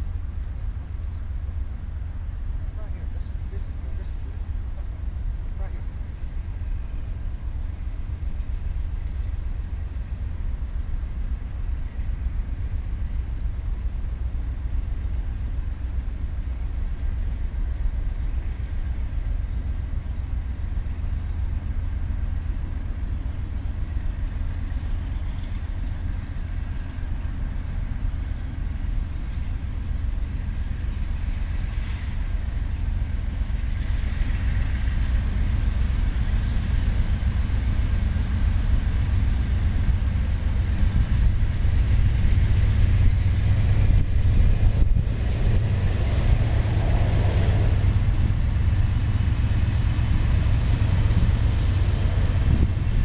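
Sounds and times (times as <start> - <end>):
diesel freight train rumble: 0.0 - 53.0.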